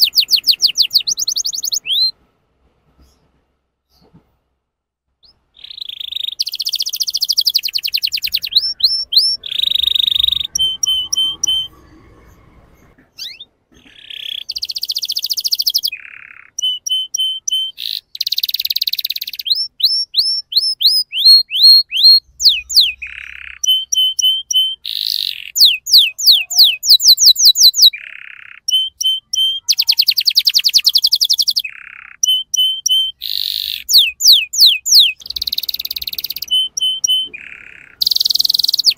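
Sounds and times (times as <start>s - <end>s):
canary singing: 0.0s - 2.2s, 5.2s - 38.9s.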